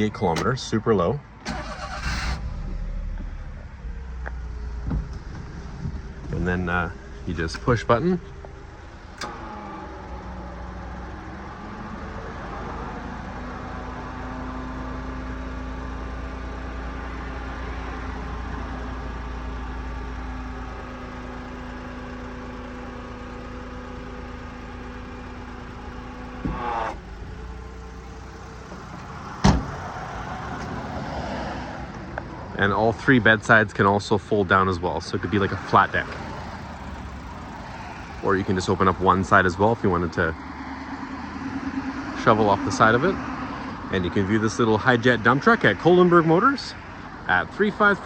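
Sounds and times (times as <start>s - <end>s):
engine idling: 1.4s - 30.7s, 32.1s - 48.0s.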